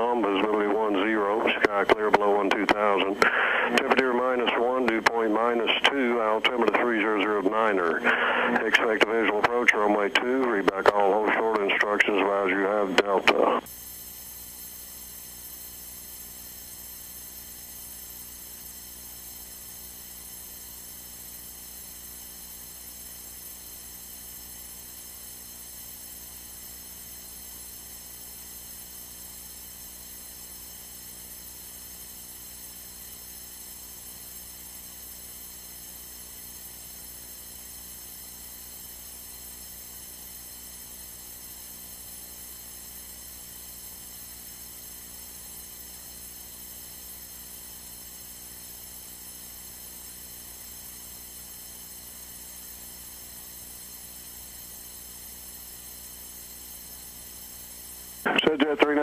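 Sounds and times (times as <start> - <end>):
radio electrical hum and hiss: 0.0 - 59.0
steady whine of even tones: 0.0 - 59.0.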